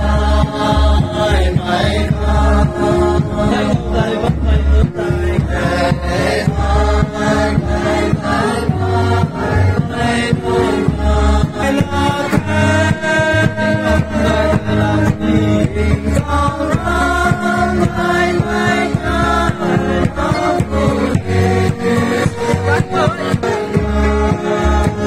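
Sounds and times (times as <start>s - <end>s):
men and women singing a hymn: 0.0s - 25.0s
steady beat: 0.0s - 25.0s.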